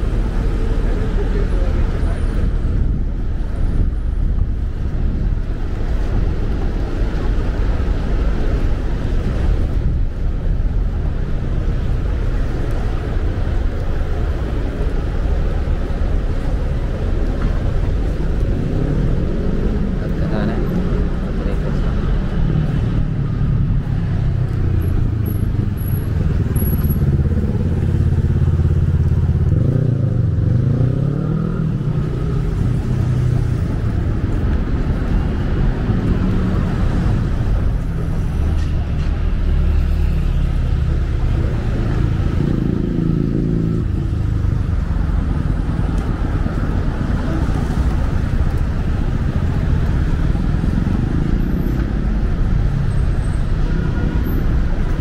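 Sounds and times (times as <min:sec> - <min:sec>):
street traffic engine drone: 0:00.0 - 0:55.0.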